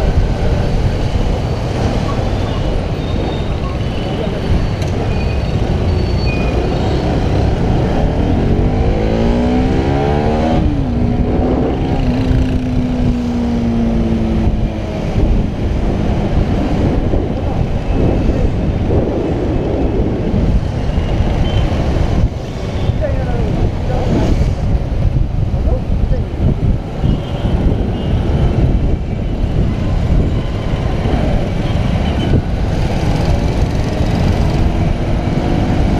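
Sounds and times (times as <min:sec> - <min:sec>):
wind rumble on microphone: 0:00.0 - 0:35.9.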